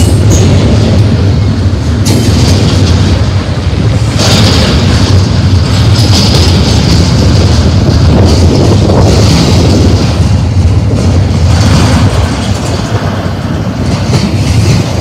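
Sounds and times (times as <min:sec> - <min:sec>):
sharp clacks of train trucks: 0:00.0 - 0:15.0
train wheels rumbling on rail: 0:00.0 - 0:15.0.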